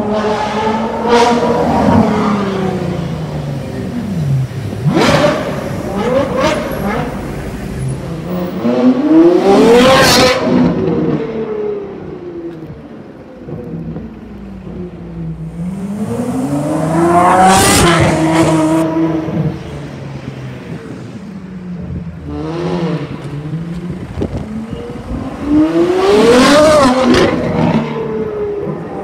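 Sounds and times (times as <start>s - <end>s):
sports car accelerating hard: 0.0s - 12.8s, 13.5s - 19.7s, 22.2s - 29.0s.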